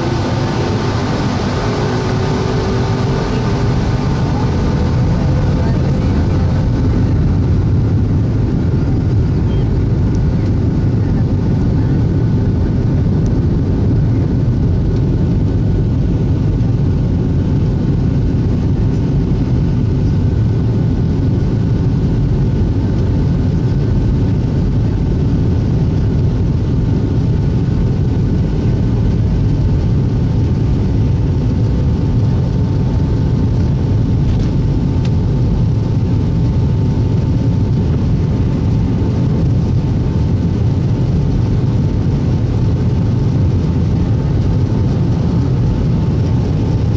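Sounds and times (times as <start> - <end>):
jet engines rumbling: 0.0 - 46.9.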